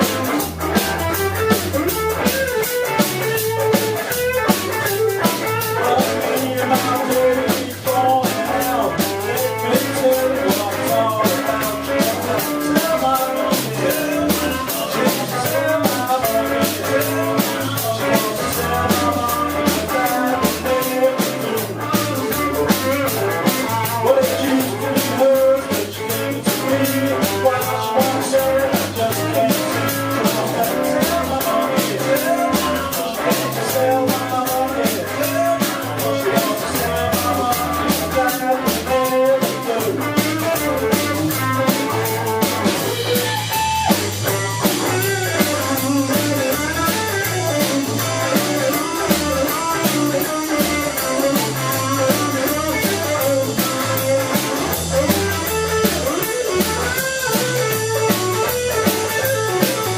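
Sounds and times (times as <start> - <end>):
blues band playing: 0.0 - 59.9
electric guitar: 0.0 - 59.9.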